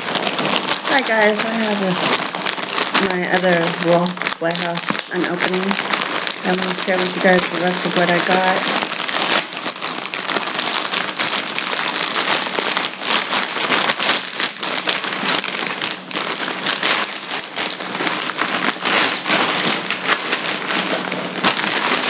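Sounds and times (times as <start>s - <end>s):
packaging crinkling and rustling: 0.0s - 22.0s.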